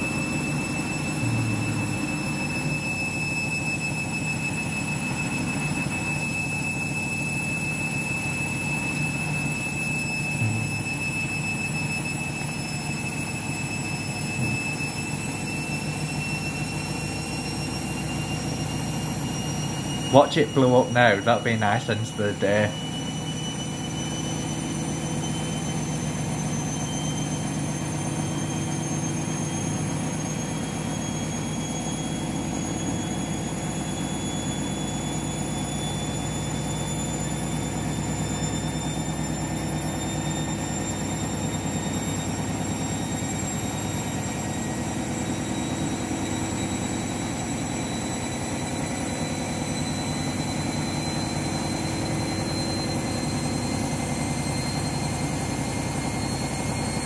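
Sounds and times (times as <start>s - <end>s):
high motor whine: 0.0s - 57.0s
washing machine spinning: 0.0s - 57.0s.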